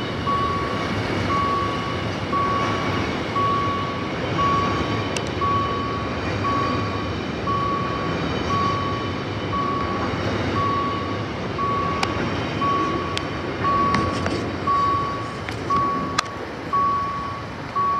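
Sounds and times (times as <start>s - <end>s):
electronic warning beeper: 0.0s - 17.9s
engine and traffic rumble: 0.0s - 17.9s.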